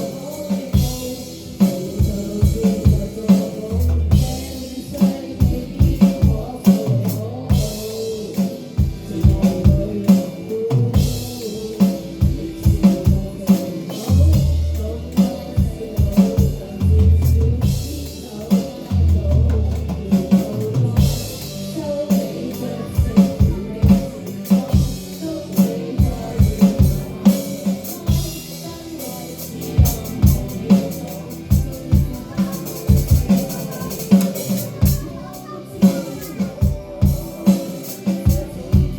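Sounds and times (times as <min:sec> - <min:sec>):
drum kit playing busy beat: 0:00.0 - 0:38.9
rock-pop band music: 0:00.0 - 0:38.9.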